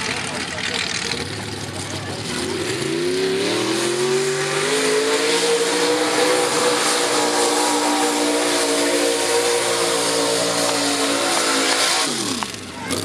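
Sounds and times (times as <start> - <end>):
truck engine at high revs: 0.0 - 13.0
wheels spinning in mud: 0.0 - 13.0.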